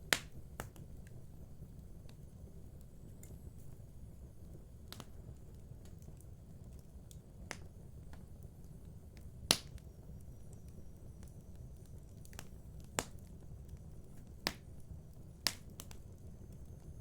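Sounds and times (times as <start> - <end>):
fire crackling pops: 0.0 - 17.0
wood fire burning: 0.0 - 17.0.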